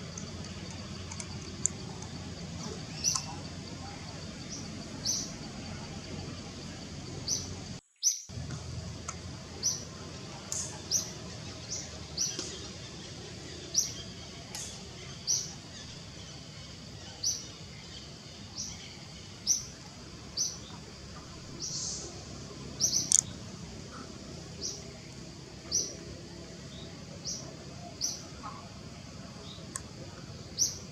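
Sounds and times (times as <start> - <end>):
bird chirping: 0.0 - 8.4, 9.5 - 25.0, 25.6 - 26.0, 26.6 - 30.9.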